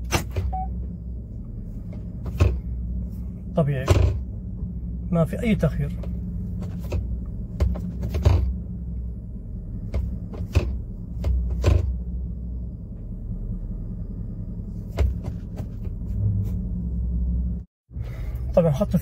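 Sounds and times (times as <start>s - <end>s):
low engine and road hum: 0.0s - 19.0s.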